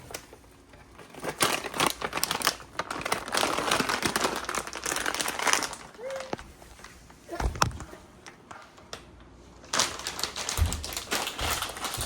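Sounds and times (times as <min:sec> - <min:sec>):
packaging crinkling: 0:00.0 - 0:08.4, 0:09.6 - 0:12.0.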